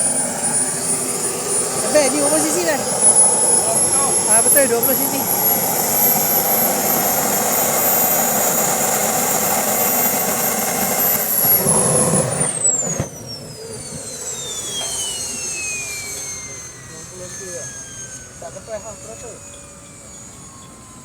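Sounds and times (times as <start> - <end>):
model airplane engine whining: 0.0 - 21.0.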